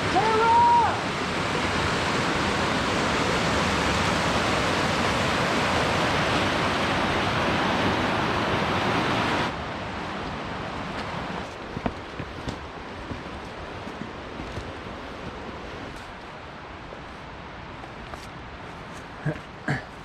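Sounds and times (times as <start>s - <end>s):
rush of falling river water: 0.0s - 20.0s.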